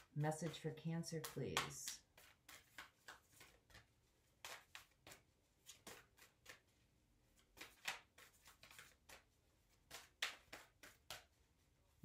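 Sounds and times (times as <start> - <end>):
cards being shuffled: 0.0 - 11.5.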